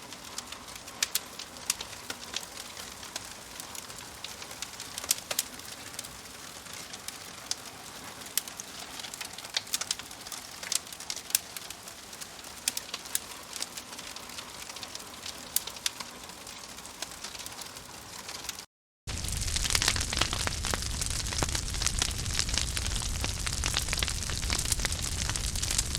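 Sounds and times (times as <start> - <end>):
campfire crackling and popping: 0.0 - 25.9.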